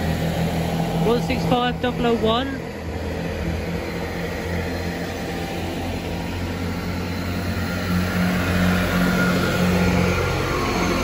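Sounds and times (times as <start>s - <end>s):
low diesel engine drone: 0.0s - 11.0s.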